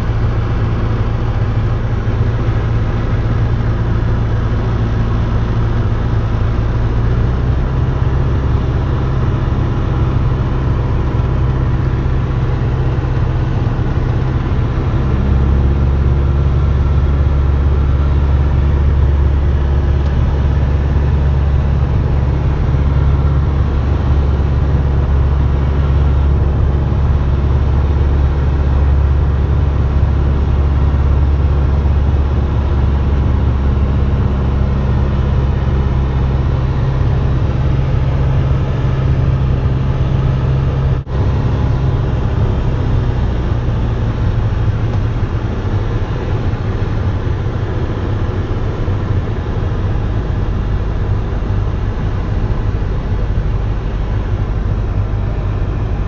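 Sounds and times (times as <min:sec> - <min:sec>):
piston engine droning: 0:00.0 - 0:56.0
cabin airflow noise: 0:09.2 - 0:56.0.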